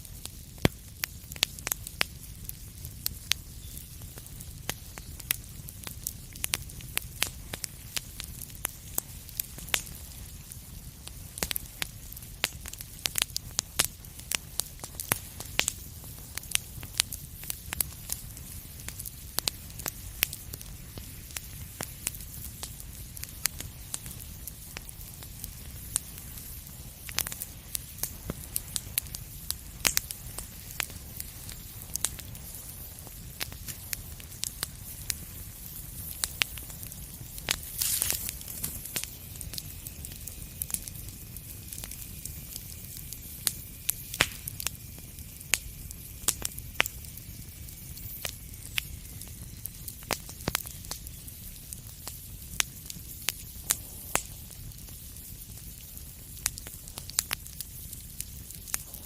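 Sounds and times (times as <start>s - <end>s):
fire hissing: 0.0s - 59.0s
sharp pops of fire: 0.0s - 59.0s
wood fire crackling: 0.0s - 59.0s.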